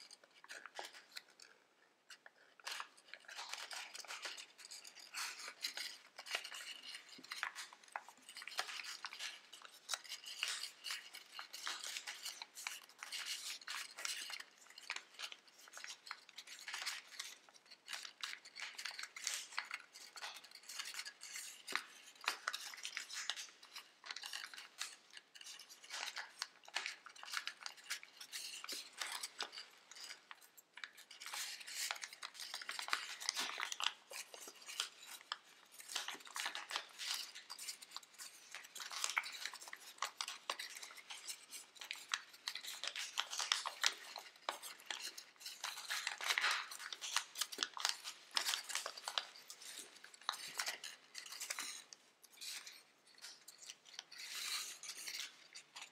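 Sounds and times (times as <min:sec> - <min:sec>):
paper crinkling and rustling: 0:02.5 - 0:55.9.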